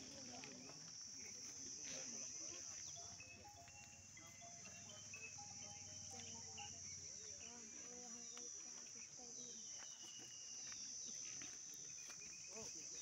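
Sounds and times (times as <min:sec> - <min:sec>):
insect chorus droning: 0:00.0 - 0:13.0.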